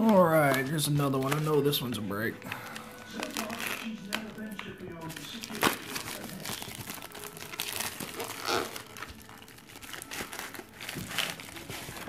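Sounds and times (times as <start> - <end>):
plastic mailer crinkling: 0.0 - 12.0.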